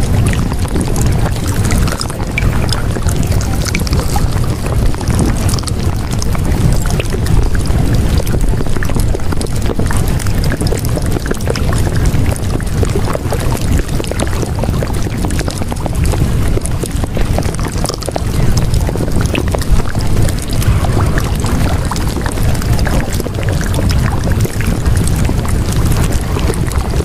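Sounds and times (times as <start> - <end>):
loud steady rushing noise: 0.0 - 27.0.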